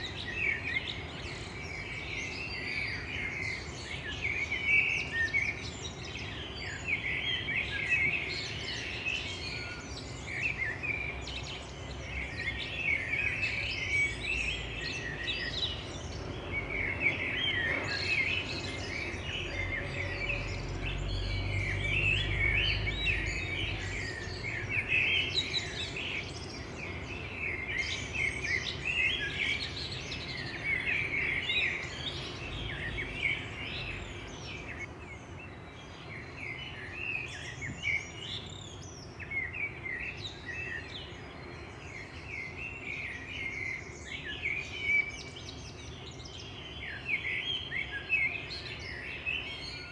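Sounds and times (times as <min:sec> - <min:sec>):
birds chirping and singing: 0:00.0 - 0:49.9.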